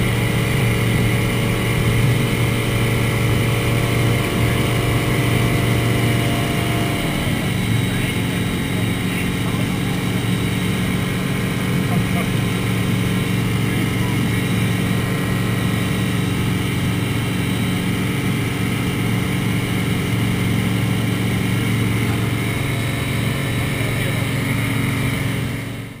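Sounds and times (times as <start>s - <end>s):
plane engine and propeller: 0.0s - 26.0s.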